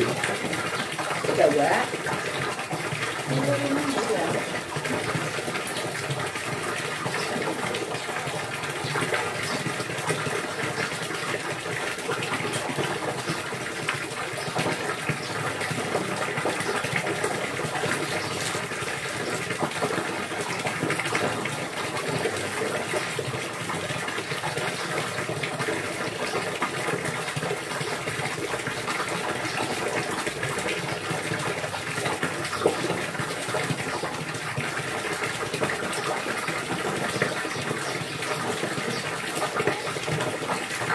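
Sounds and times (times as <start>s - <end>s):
running splashing water: 0.0s - 40.9s.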